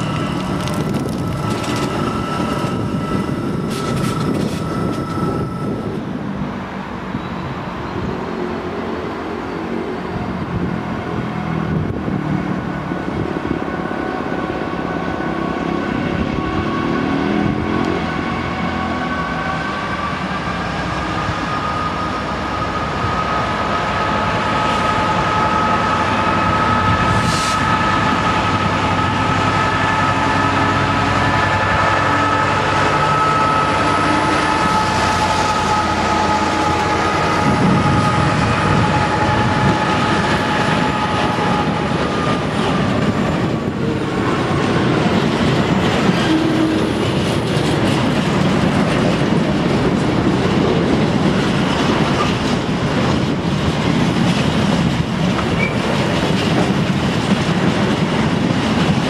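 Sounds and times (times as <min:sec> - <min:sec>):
electric train moving off: 0:00.0 - 0:08.2, 0:12.7 - 0:53.4
diesel locomotive engine running: 0:00.0 - 0:59.0.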